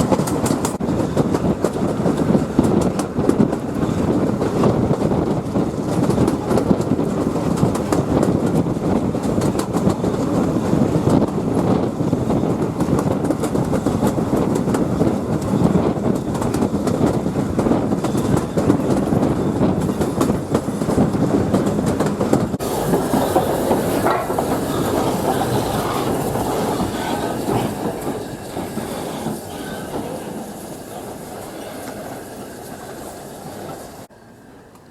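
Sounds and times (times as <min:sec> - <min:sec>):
train wheels clicking over rails: 0:00.0 - 0:34.1.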